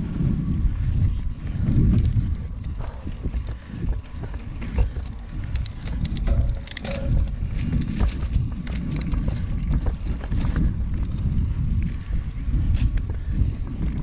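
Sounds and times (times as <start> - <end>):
bike clicks and rattles: 0.0 - 14.0
wind: 0.0 - 14.0.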